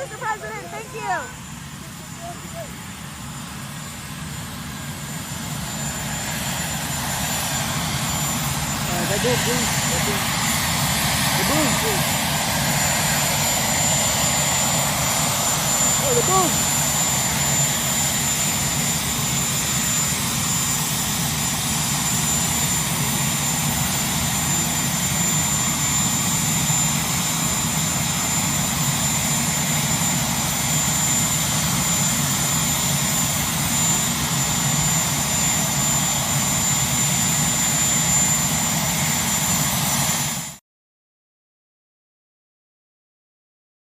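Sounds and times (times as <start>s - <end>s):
jet engines roaring: 0.0s - 40.6s.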